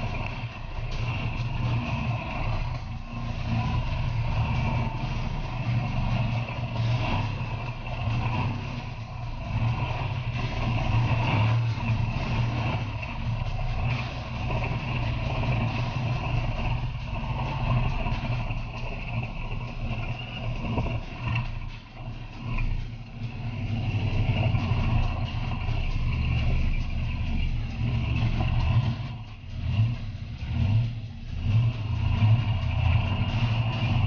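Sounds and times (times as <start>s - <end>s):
race car engine running hard: 0.0s - 34.0s.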